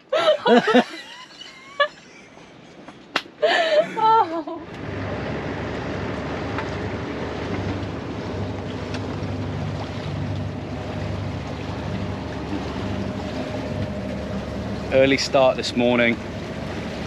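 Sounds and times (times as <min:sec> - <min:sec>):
low steady hum: 0:00.0 - 0:17.0
rush of wind and water: 0:02.1 - 0:17.0.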